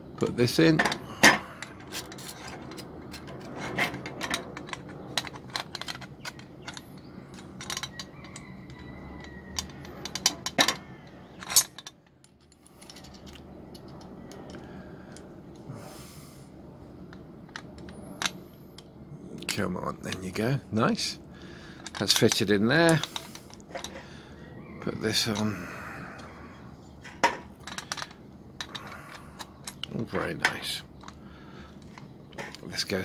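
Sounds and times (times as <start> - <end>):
metal parts clicking and scraping: 0.1 - 16.1, 16.9 - 33.0.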